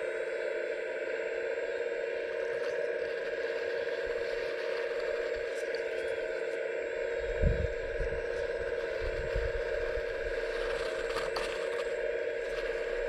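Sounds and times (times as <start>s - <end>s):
hydraulic pump whine: 0.0s - 13.0s.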